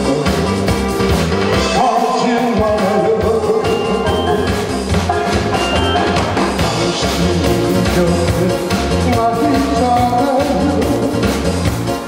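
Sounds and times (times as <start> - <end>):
song over a stage speaker: 0.0 - 12.0.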